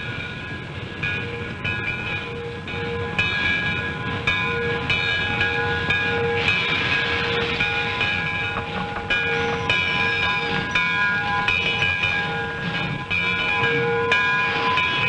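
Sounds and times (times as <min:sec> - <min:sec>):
train bell clanging: 0:00.0 - 0:15.0
train rumble: 0:00.0 - 0:15.0
steam hissing: 0:02.5 - 0:15.0.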